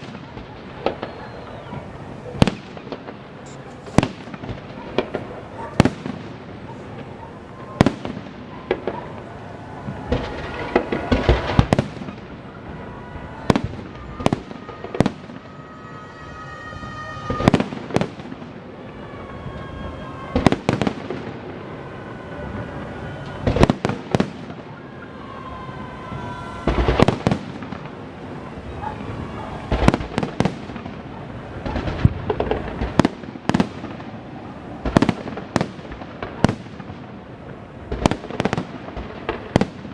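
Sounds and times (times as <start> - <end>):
fireworks bursting in sharp bangs: 0.0 - 39.9.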